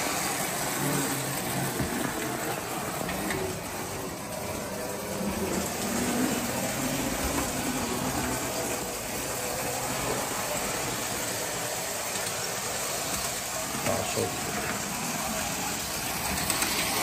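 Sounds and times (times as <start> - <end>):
metal wheels rumbling on rails: 0.0 - 17.0
toy train motor hum: 0.0 - 17.0.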